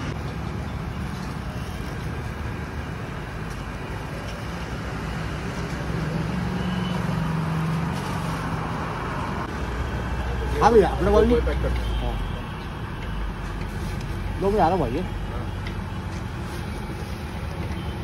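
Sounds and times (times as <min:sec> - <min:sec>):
street traffic: 0:00.0 - 0:18.0
vehicle engine drone: 0:00.0 - 0:18.0.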